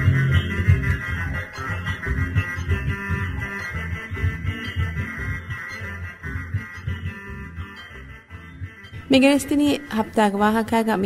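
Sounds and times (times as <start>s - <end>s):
plucked guitar: 0.0s - 11.0s
repeating bass line: 0.0s - 11.0s.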